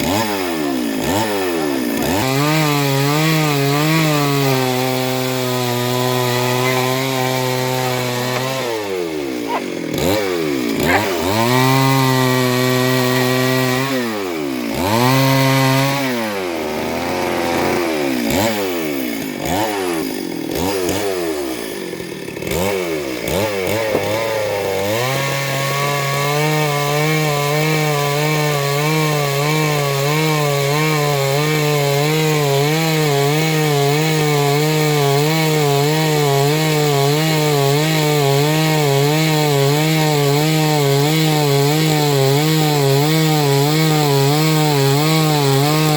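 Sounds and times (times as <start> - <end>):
chainsaw cutting wood: 0.0 - 45.9
chainsaw engine revving: 0.0 - 45.9.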